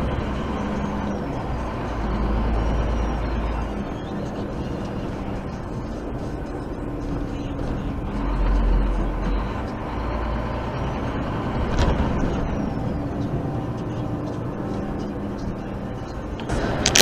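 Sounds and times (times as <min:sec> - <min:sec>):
lorry engine running: 0:00.0 - 0:17.0
road rumble: 0:00.0 - 0:17.0.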